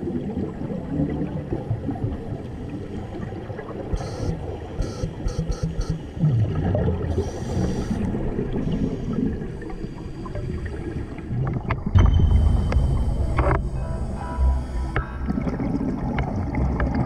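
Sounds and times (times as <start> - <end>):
underwater bubbles gurgling: 0.0 - 17.0.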